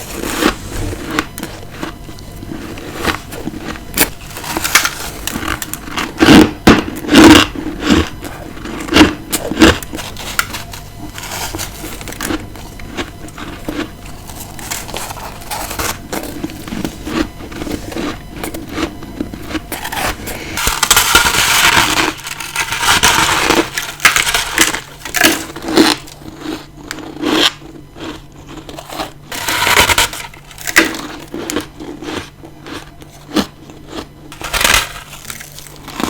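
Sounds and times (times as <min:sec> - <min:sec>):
crunching ice chewing: 0:00.0 - 0:36.0.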